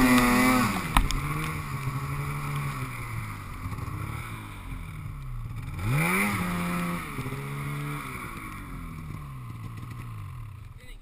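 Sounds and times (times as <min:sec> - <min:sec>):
snowmobile engine revving: 0:00.0 - 0:11.0.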